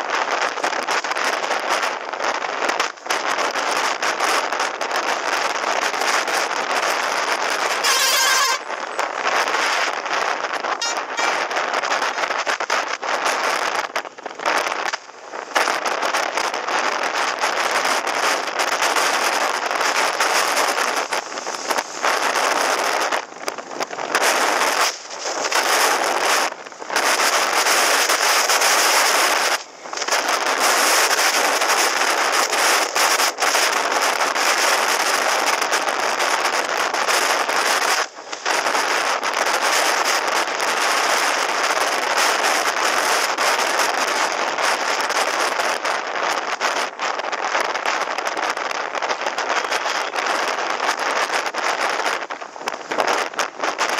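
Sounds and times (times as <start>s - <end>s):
wind hiss on microphone: 0.0s - 53.9s.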